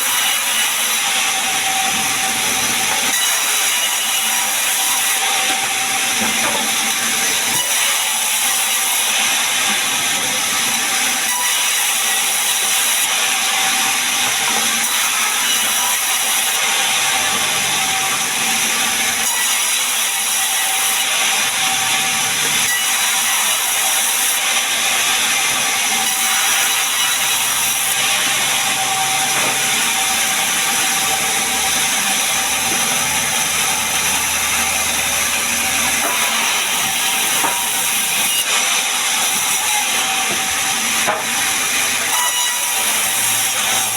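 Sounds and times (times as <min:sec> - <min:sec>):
saw blade cutting wood: 0:00.0 - 0:43.9.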